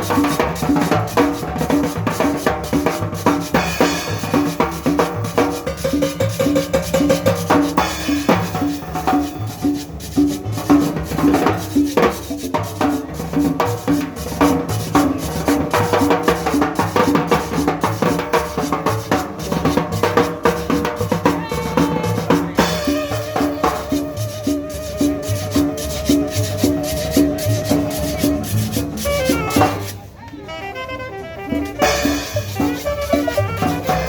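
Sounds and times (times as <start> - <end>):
upbeat latin dance music: 0.0 - 34.0.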